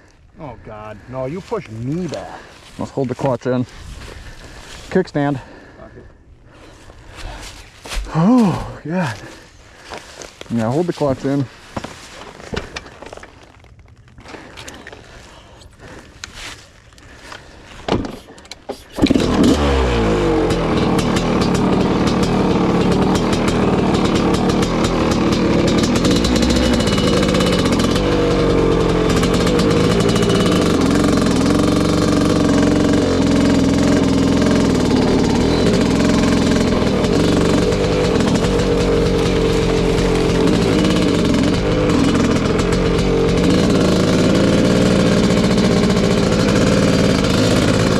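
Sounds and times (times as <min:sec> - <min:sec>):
motorcycle engine revving: 0:00.0 - 0:05.8, 0:06.5 - 0:11.7, 0:17.1 - 0:47.9.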